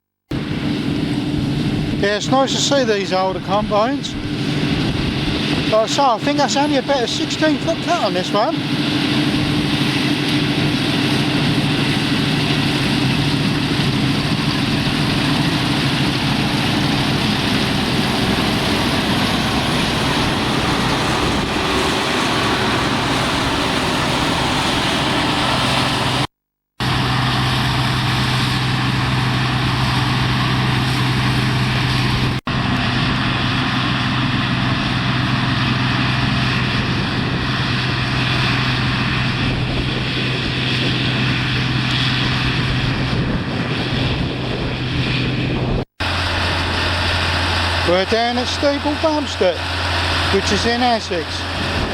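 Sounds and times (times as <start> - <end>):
combine harvester running: 0.3 - 51.9.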